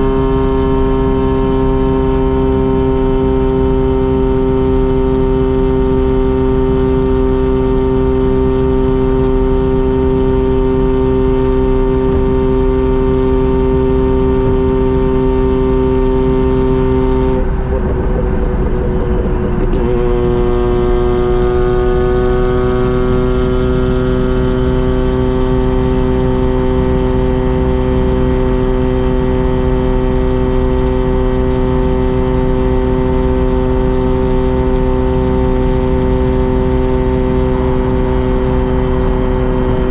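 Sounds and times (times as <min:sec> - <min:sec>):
rotary engine droning: 0:00.0 - 0:39.9.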